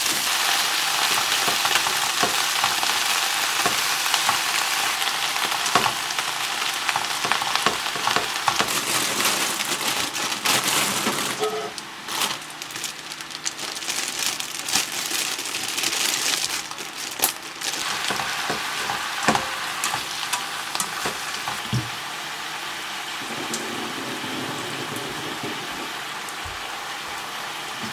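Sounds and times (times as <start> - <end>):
food sizzling in a pan: 0.0 - 13.6, 15.7 - 27.9.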